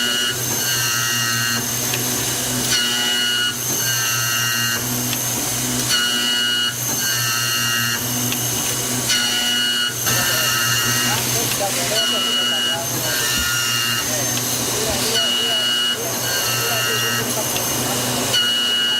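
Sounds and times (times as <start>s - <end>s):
cutter high whine: 0.0s - 18.9s
key milling machine motor hum: 0.0s - 18.9s.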